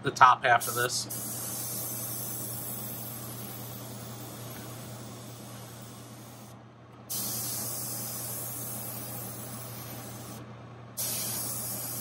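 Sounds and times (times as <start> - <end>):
steady low hum: 0.0 - 12.0
airbrush spraying hiss: 0.6 - 10.4, 11.0 - 12.0.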